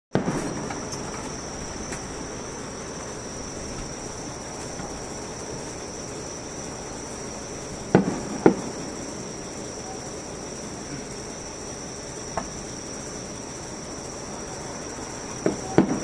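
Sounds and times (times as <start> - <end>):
insects chirring: 0.1 - 16.0.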